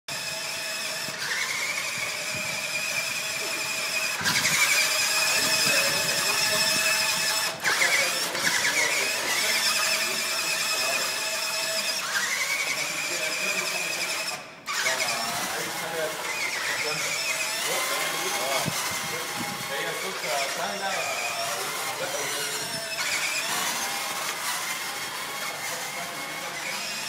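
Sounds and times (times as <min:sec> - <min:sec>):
rc truck motor whining: 0:00.1 - 0:27.0.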